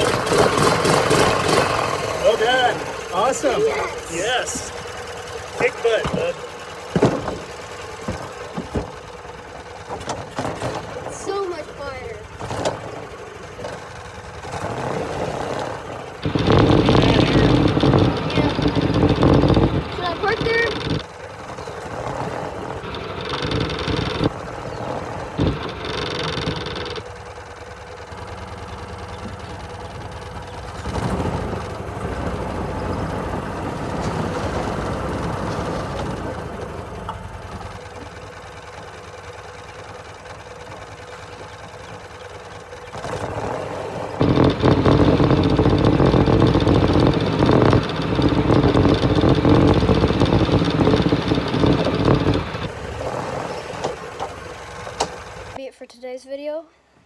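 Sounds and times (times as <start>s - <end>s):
golf cart engine running: 0.0s - 55.6s.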